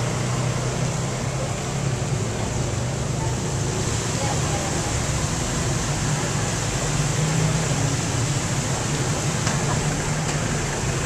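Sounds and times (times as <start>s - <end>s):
fountain hissing: 0.0s - 11.0s
street traffic hum: 0.0s - 11.0s.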